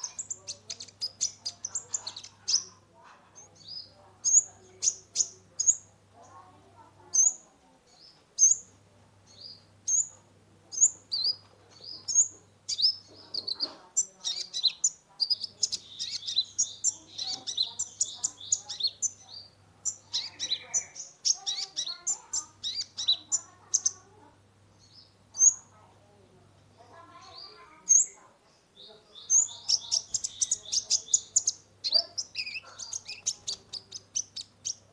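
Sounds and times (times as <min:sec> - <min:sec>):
bird chirping and twittering: 0:00.0 - 0:25.9, 0:26.8 - 0:34.9.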